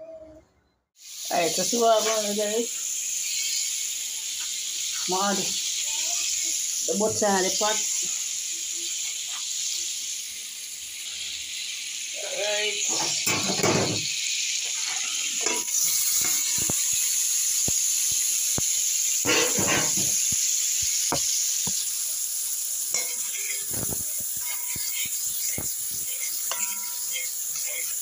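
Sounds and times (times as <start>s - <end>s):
butter sizzling in a pot: 1.0s - 28.0s.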